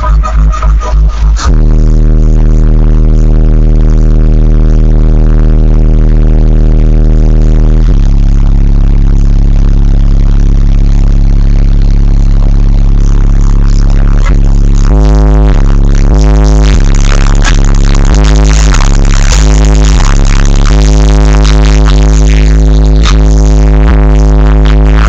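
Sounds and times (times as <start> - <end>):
distorted subwoofer bass notes: 0.0 - 25.0.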